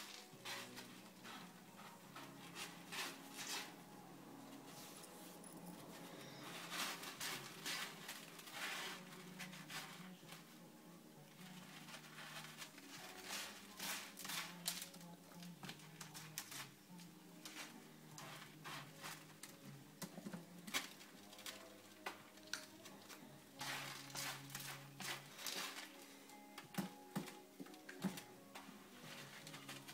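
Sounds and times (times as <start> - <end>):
kitten scratching in cat litter: 0.0 - 4.0, 4.6 - 10.7, 11.3 - 26.1, 29.0 - 29.9.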